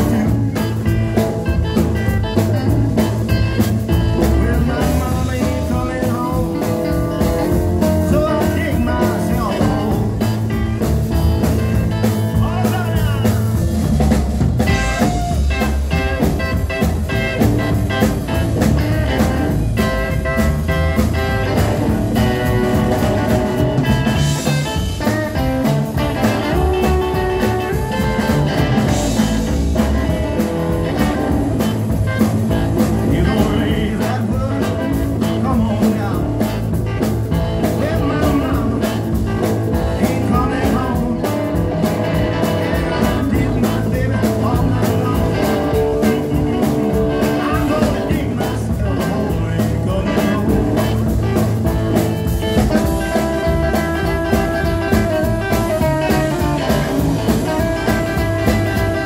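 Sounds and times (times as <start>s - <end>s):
driving drum kit: 0.0s - 59.0s
electric guitar: 0.0s - 59.0s
upright bass: 0.0s - 59.0s.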